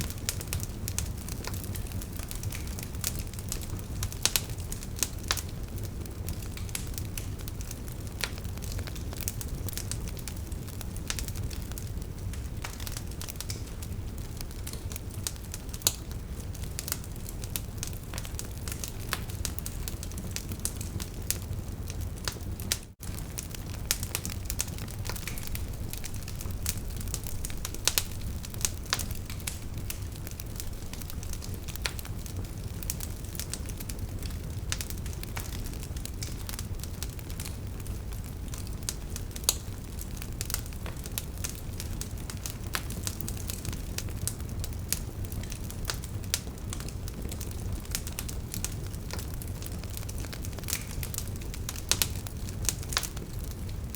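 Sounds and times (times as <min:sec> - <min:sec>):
burning logs crackling: 0:00.0 - 0:53.9
low rush of flames: 0:00.0 - 0:53.9.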